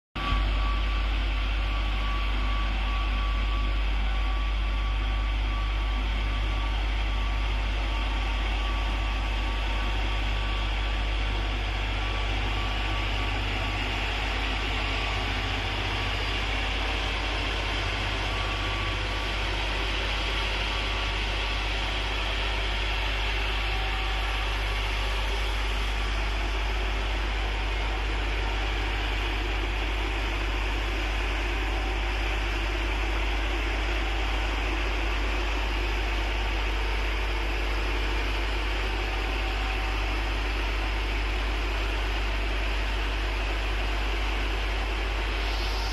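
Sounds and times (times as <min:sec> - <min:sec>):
road roller engine droning: 0:00.2 - 0:45.9.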